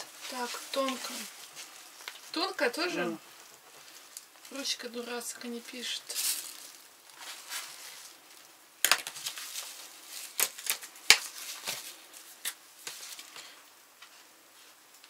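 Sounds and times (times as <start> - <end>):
plastic bags crinkling: 0.0 - 13.6.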